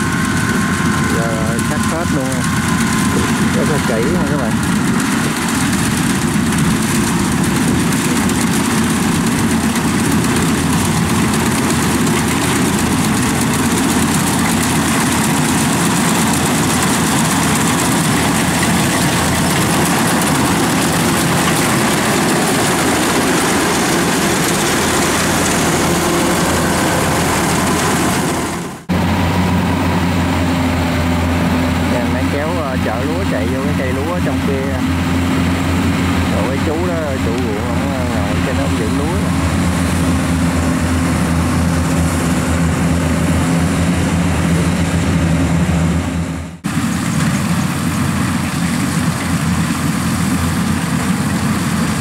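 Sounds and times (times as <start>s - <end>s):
carrier engine humming: 0.0s - 52.0s
combine harvester working: 0.0s - 52.0s.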